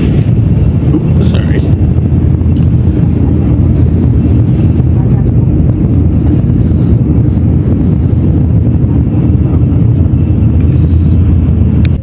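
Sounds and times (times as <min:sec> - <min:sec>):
train rumbling inside cabin: 0:00.0 - 0:12.0.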